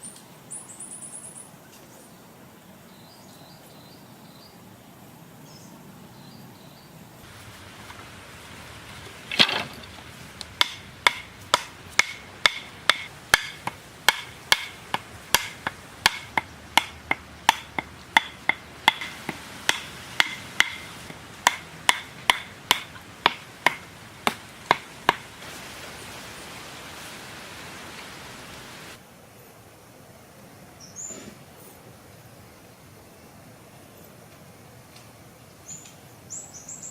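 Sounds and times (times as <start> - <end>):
steady hiss: 0.0 - 36.9.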